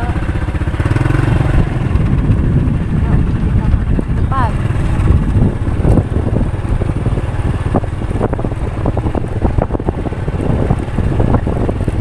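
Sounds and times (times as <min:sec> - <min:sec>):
low vehicle engine rumble: 0:00.0 - 0:12.0
wind buffeting microphone: 0:00.0 - 0:12.0.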